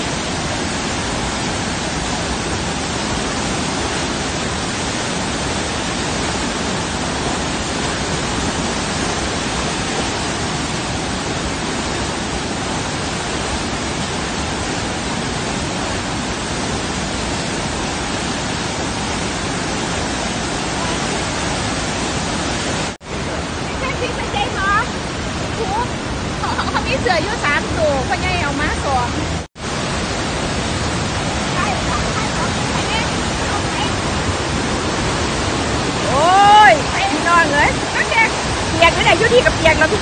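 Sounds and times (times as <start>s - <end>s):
waterfall rushing and crashing: 0.0s - 40.0s.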